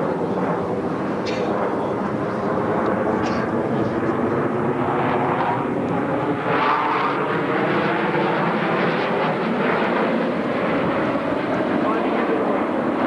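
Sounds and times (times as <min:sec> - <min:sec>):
loud jet engine noise: 0:00.0 - 0:13.0.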